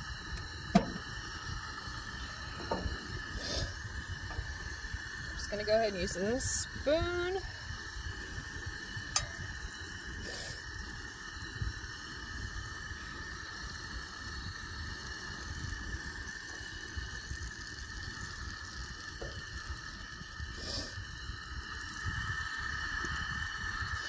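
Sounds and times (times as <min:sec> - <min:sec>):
butter sizzling in a skillet: 0:00.0 - 0:24.0
low rumble of wind: 0:00.0 - 0:24.0.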